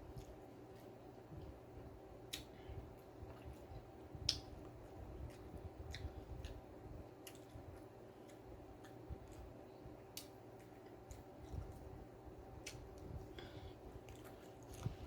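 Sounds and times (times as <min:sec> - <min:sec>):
person chewing food: 0:00.0 - 0:01.6, 0:02.2 - 0:15.0
faint steady hum: 0:00.0 - 0:15.0.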